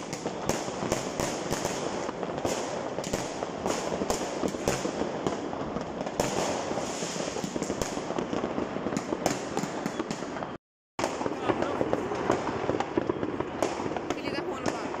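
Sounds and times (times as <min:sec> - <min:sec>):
fireworks and firecrackers crackling: 0:00.0 - 0:15.0.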